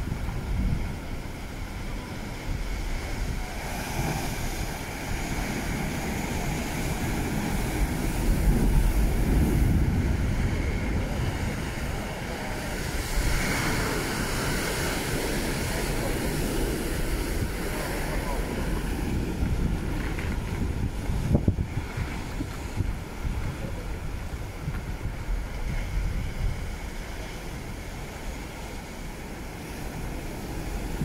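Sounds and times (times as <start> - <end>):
surf breaking on rocky shore: 0.0 - 31.0
wind buffeting microphone: 0.0 - 31.0.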